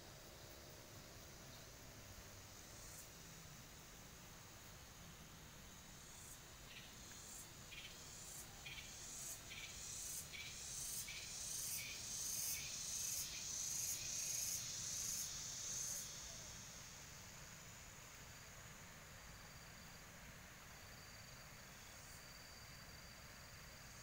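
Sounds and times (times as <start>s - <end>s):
insects buzzing song: 0.0s - 24.0s.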